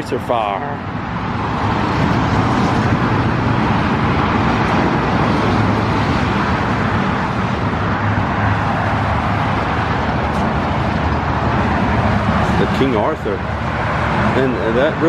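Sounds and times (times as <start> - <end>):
highway traffic noise: 0.0 - 15.0.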